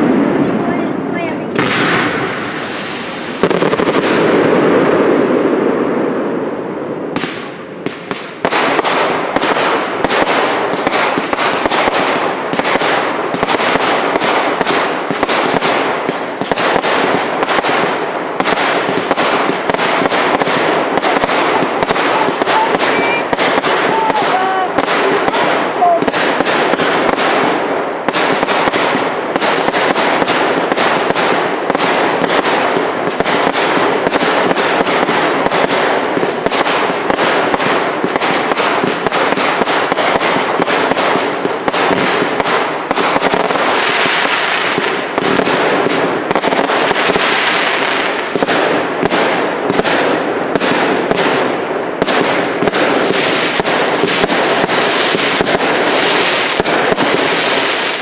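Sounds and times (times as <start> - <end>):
fireworks bangs: 0.0 - 58.0
fireworks hissing crackle: 0.5 - 4.8, 7.1 - 51.3, 52.0 - 58.0.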